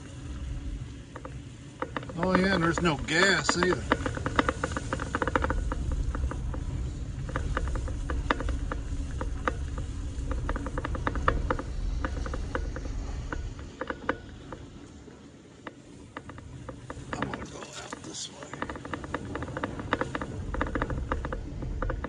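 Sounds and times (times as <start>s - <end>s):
low cabin rumble: 0.0s - 22.0s.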